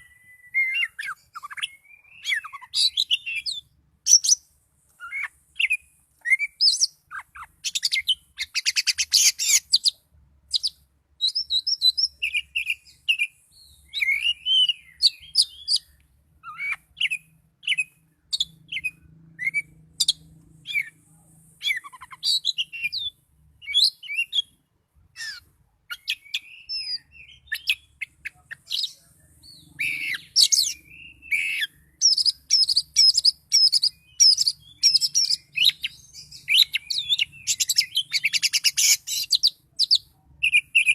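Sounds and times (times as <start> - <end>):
bird singing whistled phrases: 0.0 - 4.4, 5.0 - 10.0, 10.6 - 20.9, 21.6 - 24.6, 25.2 - 40.9.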